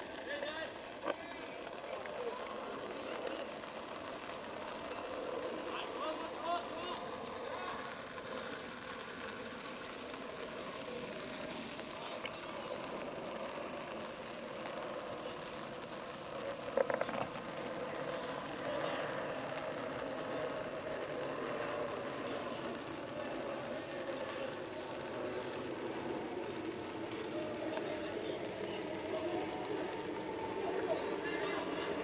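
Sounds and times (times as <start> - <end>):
faint distant voices: 0.0 - 32.0.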